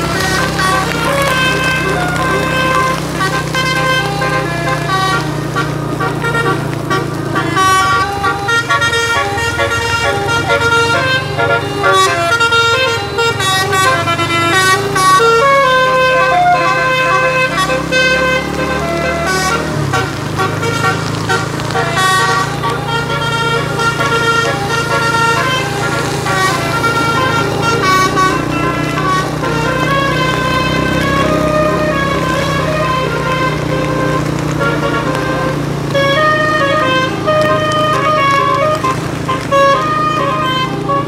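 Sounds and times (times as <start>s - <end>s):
bus engine humming: 0.0s - 41.0s
bus musical horn playing a tune: 0.0s - 41.0s.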